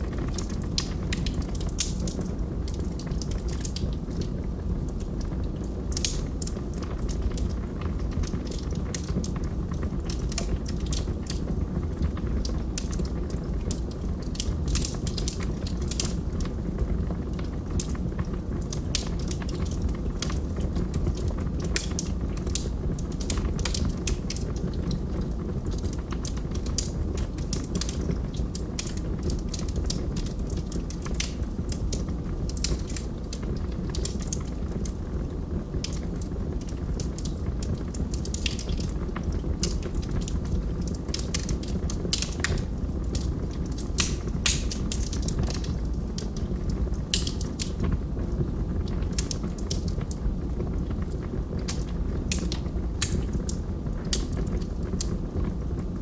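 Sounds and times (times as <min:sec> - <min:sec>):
fire crackling and popping: 0:00.0 - 0:56.0
low rumble of fire: 0:00.0 - 0:56.0.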